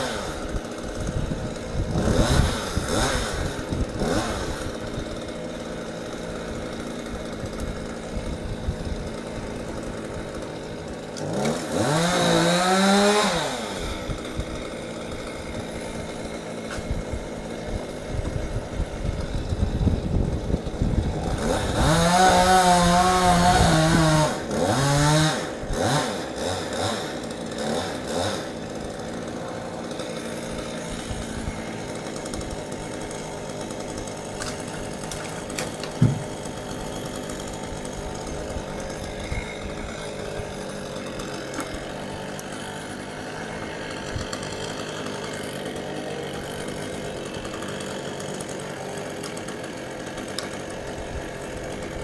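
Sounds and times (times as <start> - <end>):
chainsaw revving and idling: 0.0 - 52.0.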